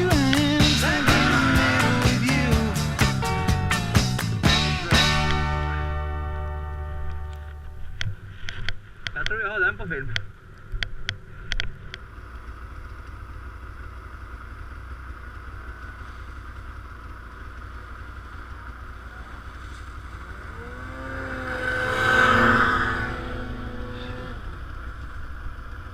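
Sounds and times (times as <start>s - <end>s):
snowmobile engine running: 0.0s - 8.4s, 11.3s - 25.9s.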